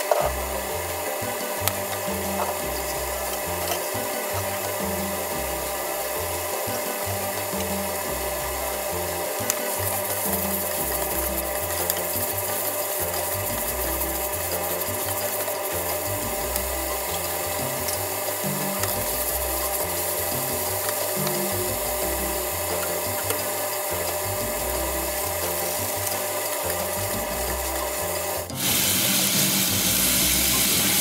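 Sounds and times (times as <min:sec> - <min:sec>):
chicken sizzling in frying pan: 0:00.0 - 0:31.0.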